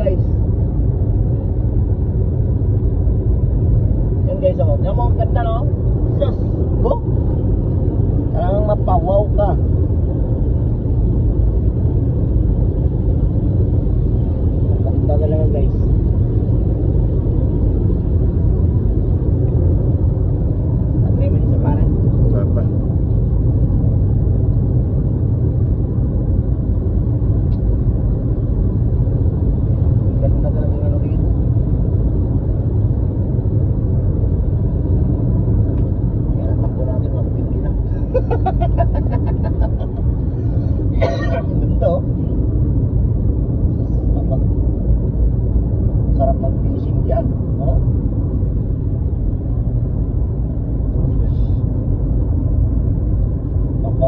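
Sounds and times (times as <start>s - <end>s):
road and engine rumble in car: 0.0s - 54.0s.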